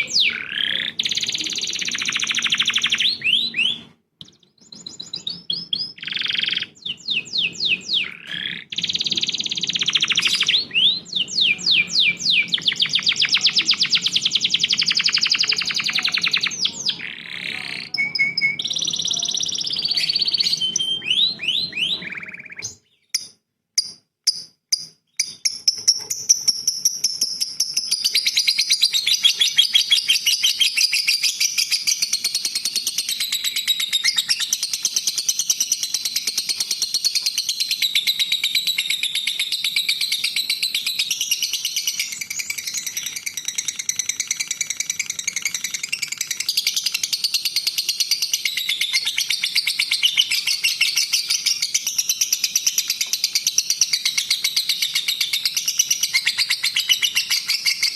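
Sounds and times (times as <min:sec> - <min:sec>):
songbird singing trills: 0:00.0 - 0:57.9.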